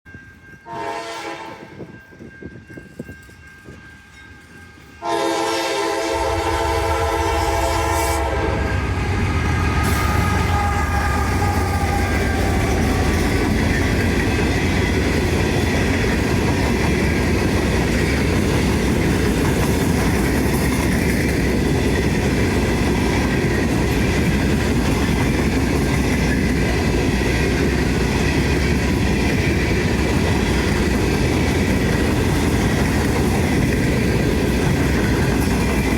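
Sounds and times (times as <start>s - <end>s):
train wheels rumbling on rail: 0.1s - 35.9s.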